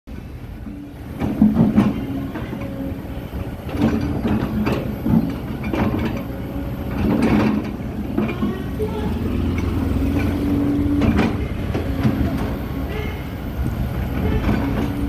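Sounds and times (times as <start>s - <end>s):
diesel engine running under load: 0.1s - 15.0s
metallic clanks and knocks: 0.7s - 12.8s.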